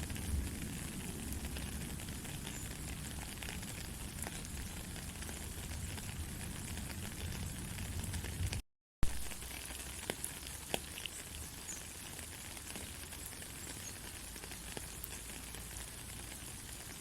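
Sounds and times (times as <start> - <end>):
light rain: 0.0 - 17.0
raindrop ticks: 0.0 - 17.0.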